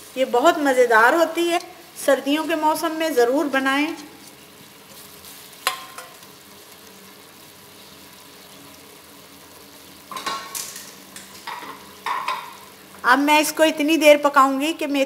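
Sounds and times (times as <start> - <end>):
food sizzling and bubbling in oil: 0.0 - 15.0.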